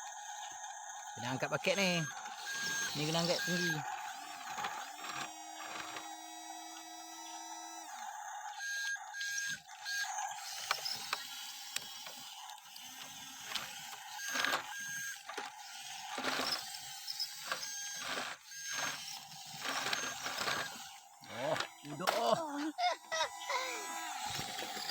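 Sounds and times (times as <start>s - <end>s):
toy electric motor whine: 0.0s - 24.9s
plastic gears clicking and rattling: 1.4s - 24.9s.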